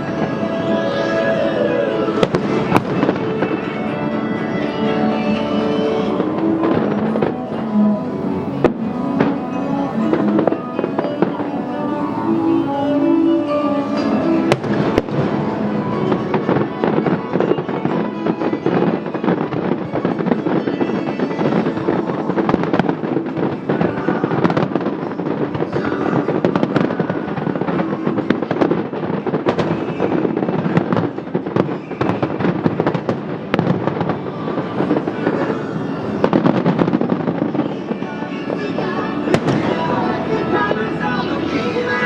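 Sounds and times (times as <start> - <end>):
fireworks bursting and crackling: 0.0 - 42.0
music: 0.0 - 42.0.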